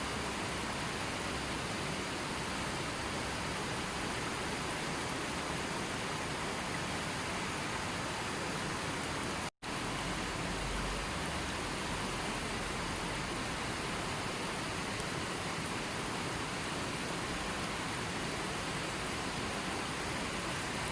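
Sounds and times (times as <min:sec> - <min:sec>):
falling water: 0:00.0 - 0:20.9.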